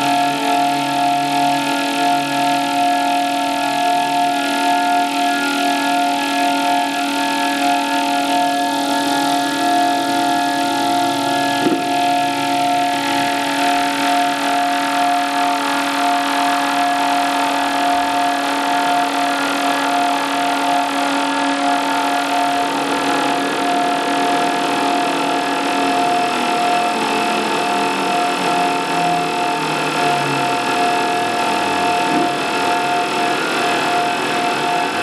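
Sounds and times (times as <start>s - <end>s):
held drone tones: 0.0s - 35.0s.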